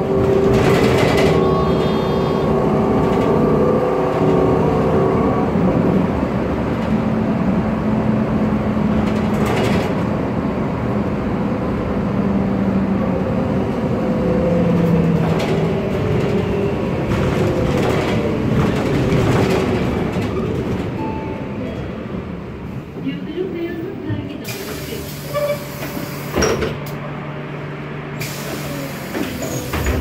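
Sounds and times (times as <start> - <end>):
bus engine running: 0.0 - 30.0.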